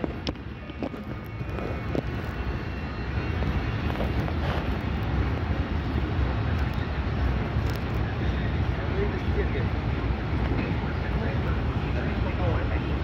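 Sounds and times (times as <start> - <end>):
electric locomotive drone: 0.0 - 13.0.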